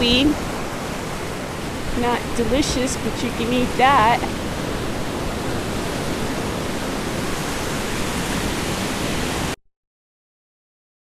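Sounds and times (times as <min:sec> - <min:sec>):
ocean surf on a beach: 0:00.0 - 0:09.6
wind on microphone: 0:00.0 - 0:09.6.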